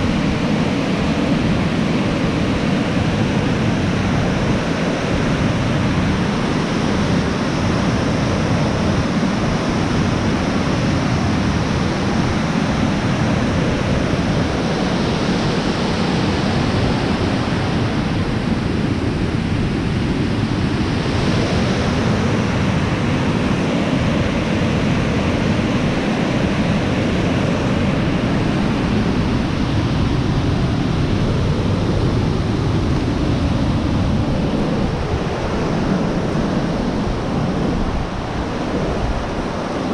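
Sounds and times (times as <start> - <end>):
water rushing through spillway: 0.0 - 39.9.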